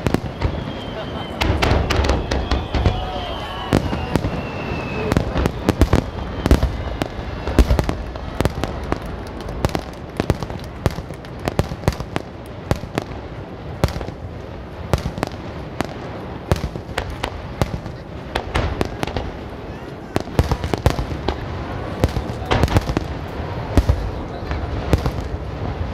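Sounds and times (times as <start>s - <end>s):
fireworks cracking and popping: 0.0s - 25.9s
heavy fireworks booms: 0.0s - 25.9s.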